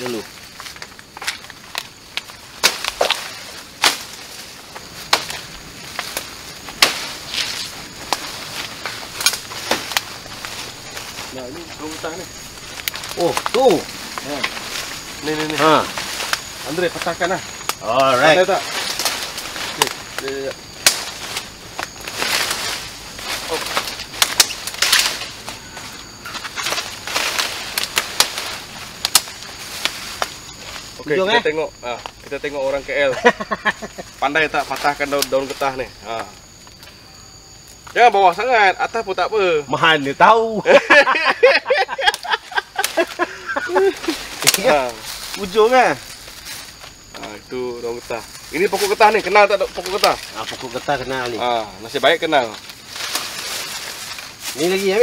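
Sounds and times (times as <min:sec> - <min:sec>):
twigs snapping: 0:00.0 - 0:31.0, 0:34.6 - 0:37.0, 0:42.0 - 0:55.0
leaves rustling: 0:00.0 - 0:55.0.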